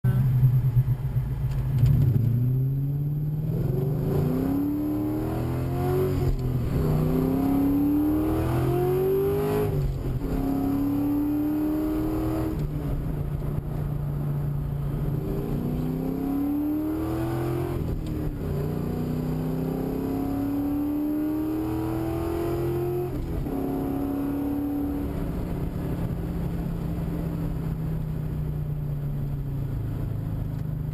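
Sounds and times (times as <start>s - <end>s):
car exhaust accelerating through gears: 0.1s - 30.9s.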